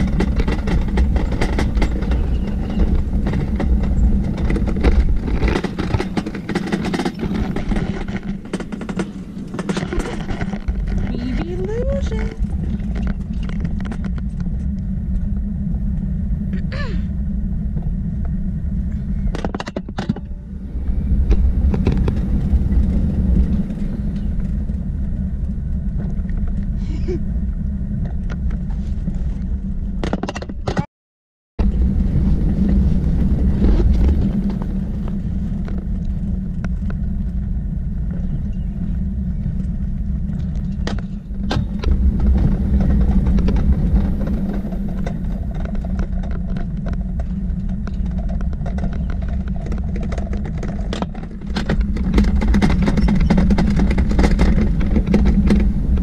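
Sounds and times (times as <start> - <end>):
sharp clicks and rattles: 0.0 - 16.1, 21.1 - 26.7, 32.6 - 56.0
sled rumbling on metal track: 0.0 - 30.9, 31.6 - 56.0.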